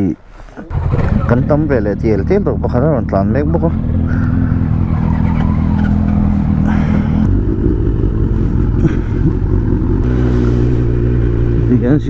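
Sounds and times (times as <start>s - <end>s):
motorcycle engines running: 0.6s - 12.0s.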